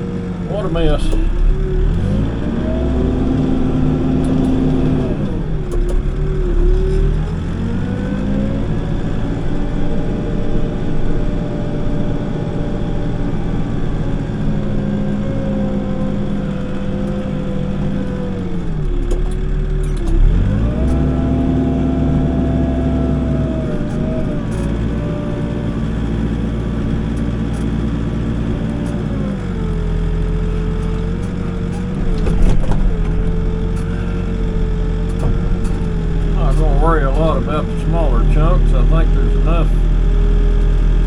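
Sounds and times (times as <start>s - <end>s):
backhoe diesel engine revving: 0.0s - 41.0s.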